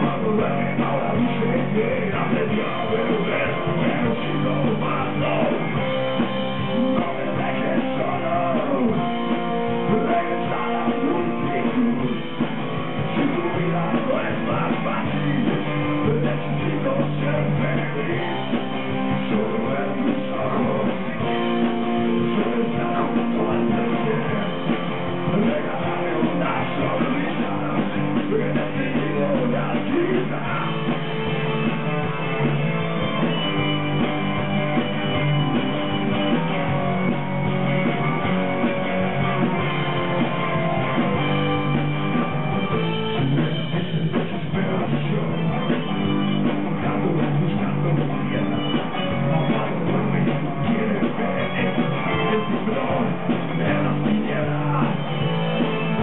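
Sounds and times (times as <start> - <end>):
bass guitar: 0.0 - 56.0
drums: 0.0 - 56.0
electric guitar: 0.0 - 56.0
keyboard: 0.0 - 56.0.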